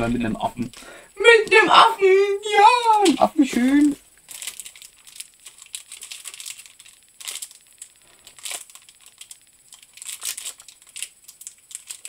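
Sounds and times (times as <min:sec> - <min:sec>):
plastic wrapper crinkling: 0:00.6 - 0:12.0.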